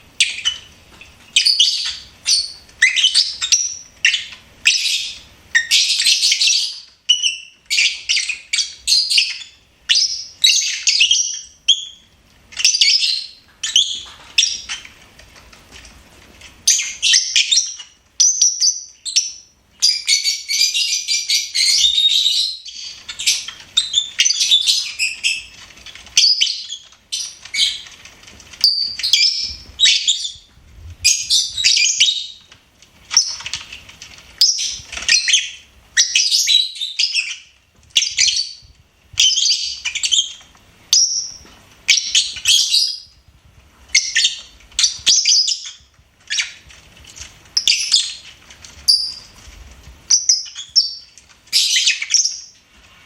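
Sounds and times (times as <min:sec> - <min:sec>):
lovebirds chirping: 0:00.0 - 0:15.9, 0:16.6 - 0:43.2, 0:43.8 - 0:52.7.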